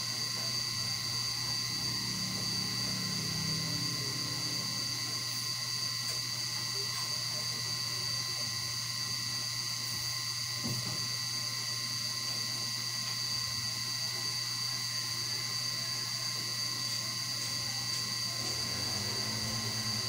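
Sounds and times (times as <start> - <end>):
electrical-mechanical hum: 0.0 - 20.0
high-pitched whine: 0.0 - 20.0.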